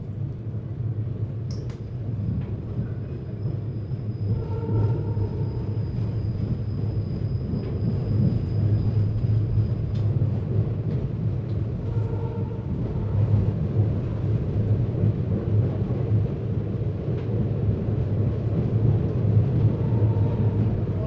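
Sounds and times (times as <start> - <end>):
passenger train rumbling: 0.0 - 21.0.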